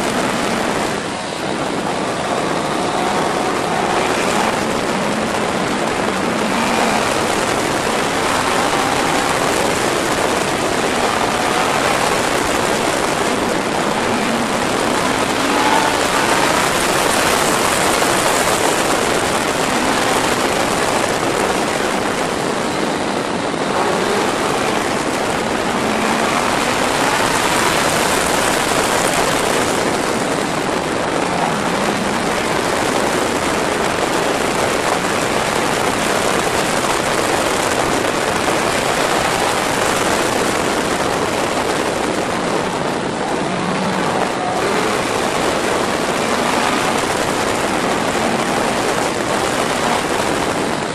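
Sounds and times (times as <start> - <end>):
motorcycle engine: 0.0 - 50.9
wind rushing over camera: 0.0 - 50.9.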